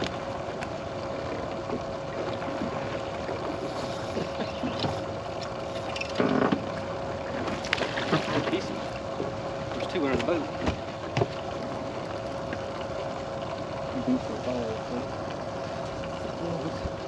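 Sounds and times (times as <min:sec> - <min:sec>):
steady mechanical hum: 0:00.0 - 0:17.0
water noise: 0:00.0 - 0:17.0
wind: 0:00.0 - 0:17.0.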